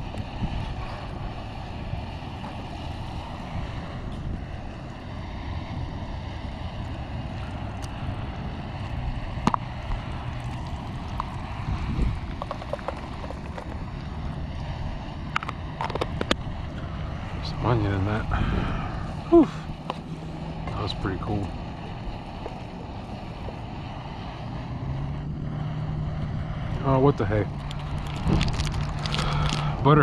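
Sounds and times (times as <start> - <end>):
camp stove burner rushing: 0.0 - 30.0.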